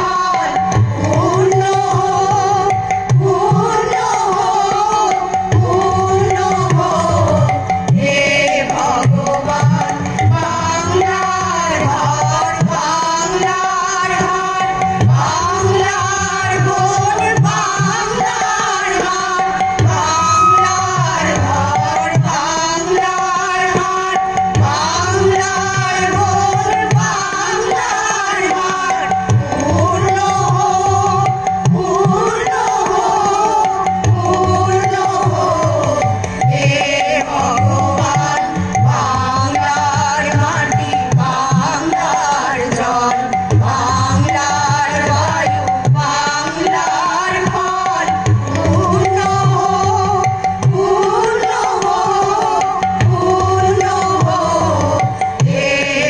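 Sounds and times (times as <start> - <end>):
amplified harmonium: 0.0 - 56.0
steady drum rhythm: 0.0 - 56.0
women's chorus singing: 0.0 - 56.0.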